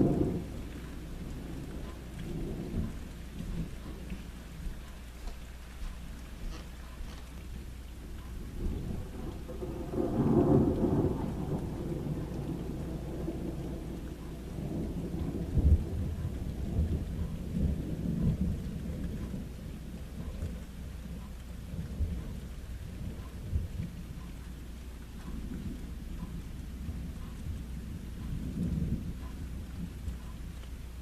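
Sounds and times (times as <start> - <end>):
thunder rumbling: 0.0 - 4.8, 7.7 - 31.0
steady rain: 0.0 - 31.0.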